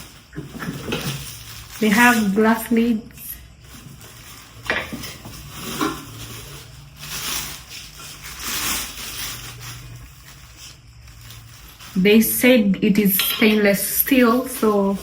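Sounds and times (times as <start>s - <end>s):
packaging rustling and crinkling: 0.0s - 12.4s, 14.2s - 15.0s.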